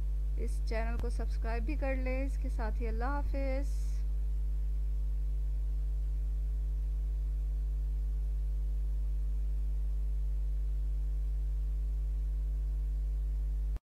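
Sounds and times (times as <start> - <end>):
low electrical mains hum: 0.0 - 13.8.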